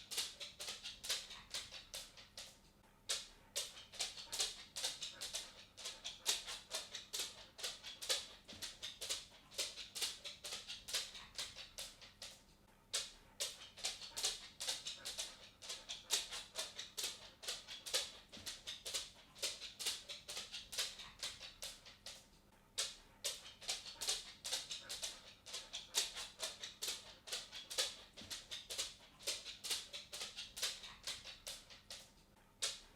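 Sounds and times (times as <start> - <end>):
dog claws clicking on wooden floor: 0.0 - 32.9.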